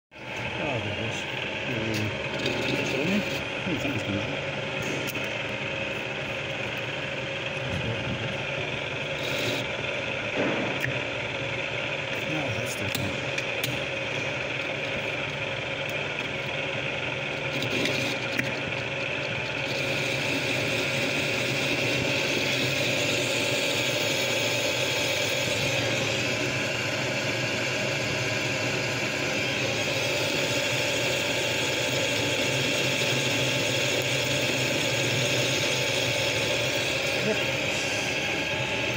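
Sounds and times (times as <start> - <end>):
lathe running: 0.2 - 38.9.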